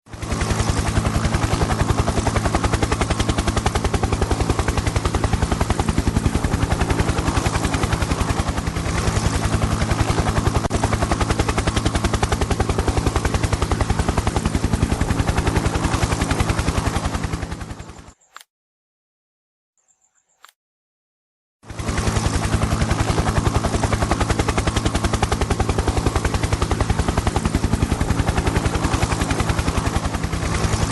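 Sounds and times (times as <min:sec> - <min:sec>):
helicopter rotor chop: 0:00.1 - 0:18.2, 0:21.6 - 0:30.9.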